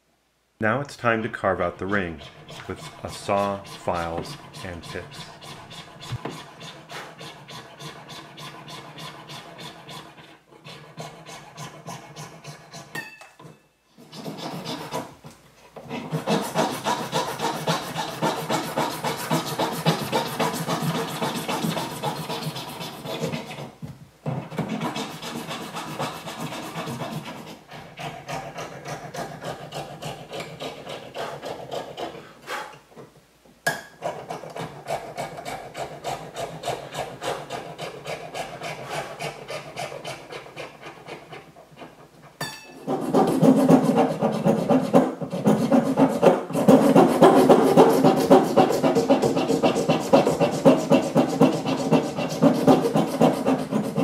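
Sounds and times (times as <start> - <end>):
jeweller's saw cutting wax: 1.0 - 13.0, 14.0 - 15.2, 15.8 - 32.7, 34.0 - 54.0
hand file rasping on wax: 1.3 - 13.0, 14.0 - 32.8, 34.0 - 54.0.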